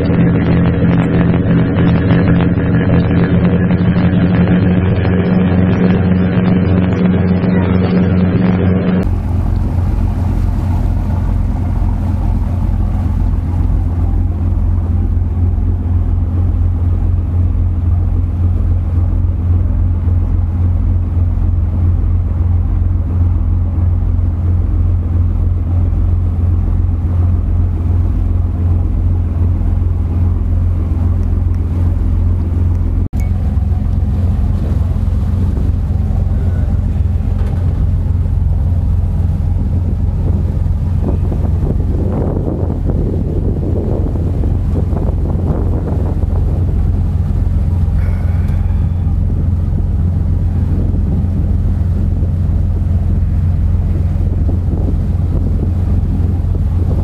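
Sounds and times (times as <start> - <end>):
boat engine humming: 0.0 - 57.0
wind noise on microphone: 0.0 - 57.0.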